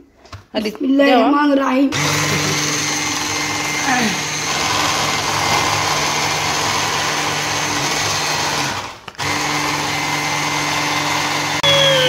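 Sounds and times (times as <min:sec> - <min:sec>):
electric hand mixer whisking batter: 0:01.9 - 0:12.0.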